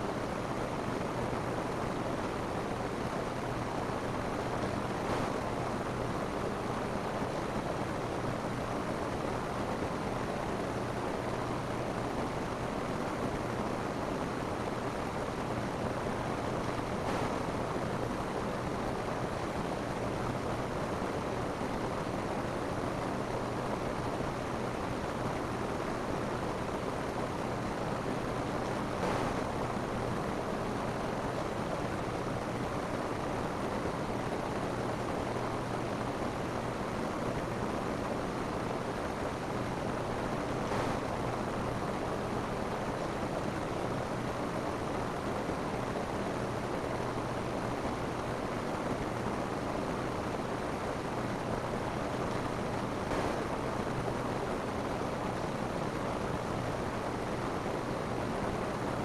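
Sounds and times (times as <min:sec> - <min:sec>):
rain on a roof: 0:00.0 - 0:59.0.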